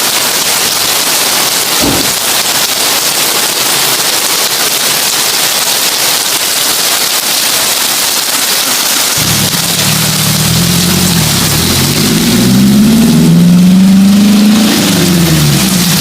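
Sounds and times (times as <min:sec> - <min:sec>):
heavy rain on a tin roof: 0:00.0 - 0:16.0.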